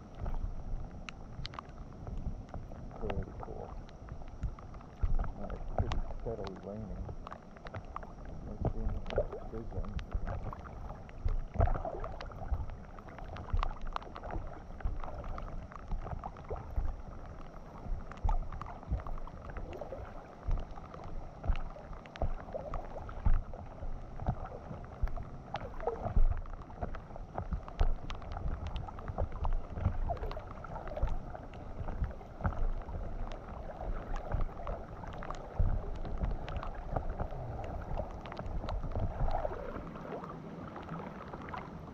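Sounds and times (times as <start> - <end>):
floodwater gurgling and splashing: 0.0 - 41.9
low rumble: 0.0 - 41.9
raindrops ticking on camera: 0.0 - 41.9.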